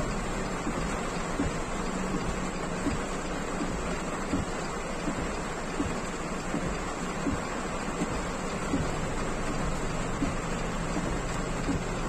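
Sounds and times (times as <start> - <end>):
car rumbling on wet road: 0.0 - 12.0
heavy rain on car roof: 0.0 - 12.0.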